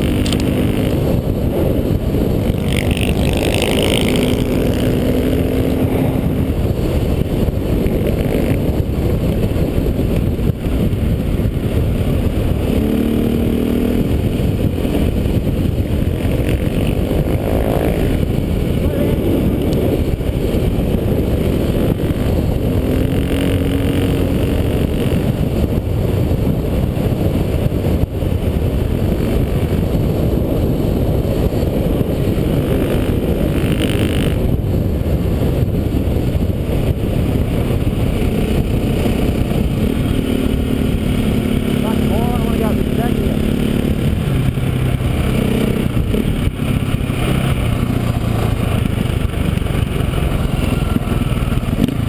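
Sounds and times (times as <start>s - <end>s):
dirt bike engine running: 0.0s - 52.0s
wind and road noise: 0.0s - 52.0s.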